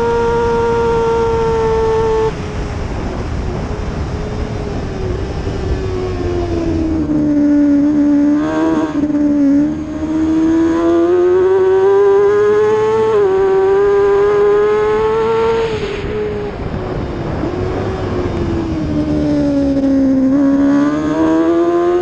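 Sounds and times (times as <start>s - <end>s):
racing motorcycle engine accelerating: 0.0s - 22.0s.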